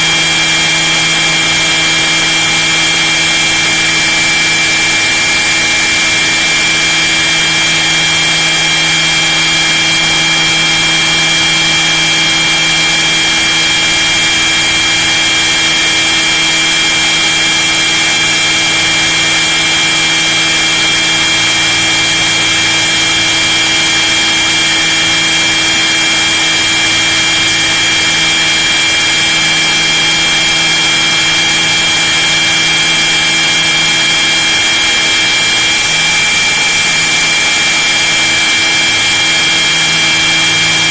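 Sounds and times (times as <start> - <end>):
model helicopter motor whine: 0.0 - 40.9.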